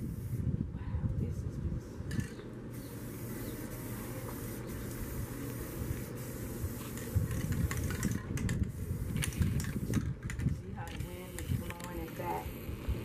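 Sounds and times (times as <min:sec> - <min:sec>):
spray paint can hissing: 0:00.0 - 0:00.4, 0:02.1 - 0:13.0
wind rumbling on microphone: 0:00.0 - 0:02.5, 0:05.0 - 0:13.0.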